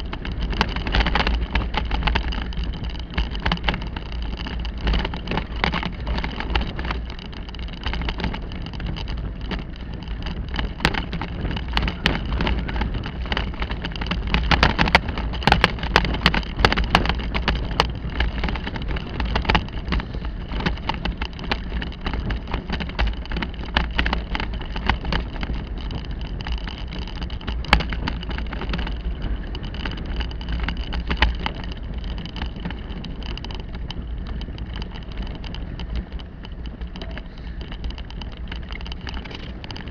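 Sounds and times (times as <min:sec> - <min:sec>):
bicycle tyres rumbling on dirt: 0:00.0 - 0:39.9
bike rattling and knocking: 0:00.0 - 0:39.9
wind on microphone: 0:00.0 - 0:39.9.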